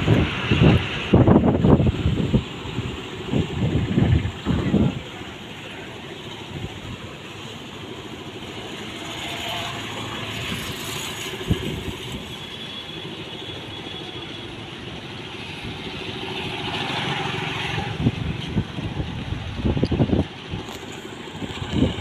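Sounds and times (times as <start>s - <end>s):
road traffic rush: 0.0s - 22.0s.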